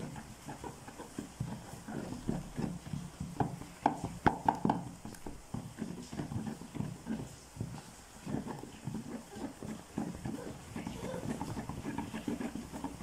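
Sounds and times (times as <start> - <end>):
batter beaten in plastic bowl: 0.0 - 13.0.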